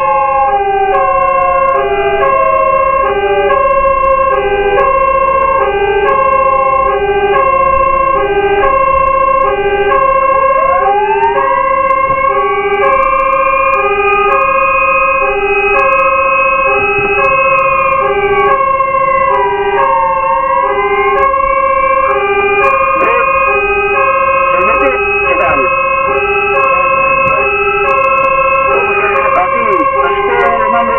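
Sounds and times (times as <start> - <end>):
two-tone hi-lo siren: 0.0 - 30.9
wailing siren: 0.0 - 30.9.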